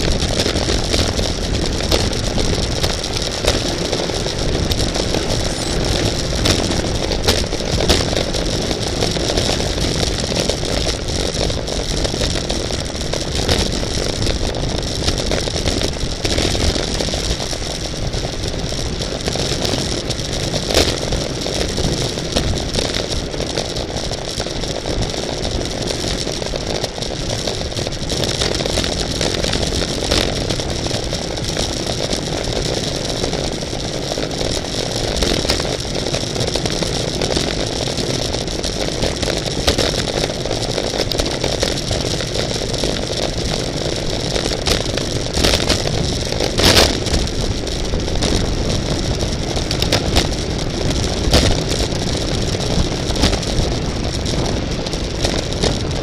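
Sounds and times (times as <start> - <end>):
bicycle chain and wheels whirring: 0.0 - 56.0
wind rushing over microphone: 0.0 - 56.0.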